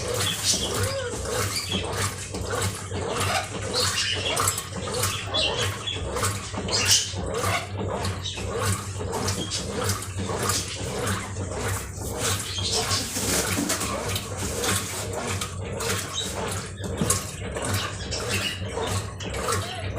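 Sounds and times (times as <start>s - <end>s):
low motor hum: 0.0s - 19.9s
water sloshing in washing machine: 0.0s - 19.9s.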